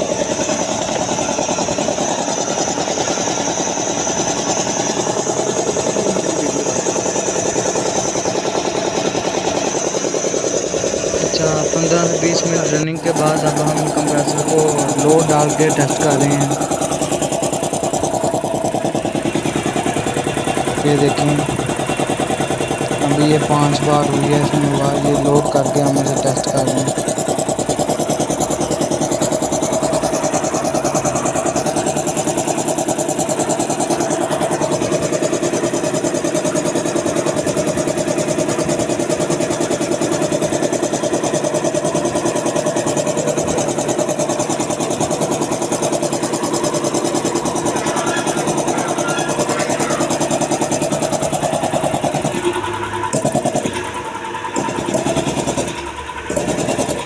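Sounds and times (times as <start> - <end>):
air compressor chugging: 0.0 - 57.0.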